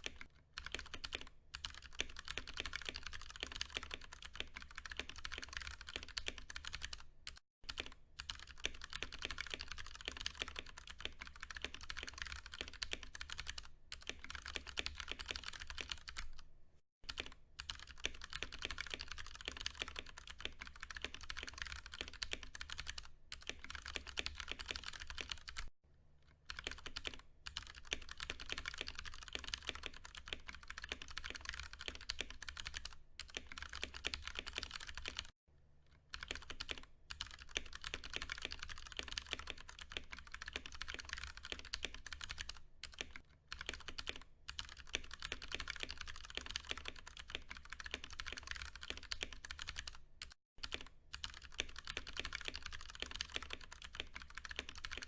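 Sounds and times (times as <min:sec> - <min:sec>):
fast typing on mechanical keyboard: 0:00.0 - 0:16.4, 0:17.1 - 0:25.7, 0:26.5 - 0:35.4, 0:36.1 - 0:55.0.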